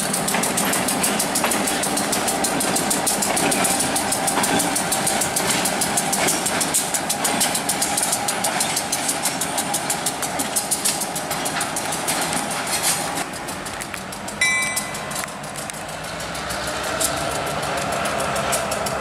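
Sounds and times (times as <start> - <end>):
locomotive engine running: 0.0 - 19.0
wheels clicking over rails: 0.0 - 19.0.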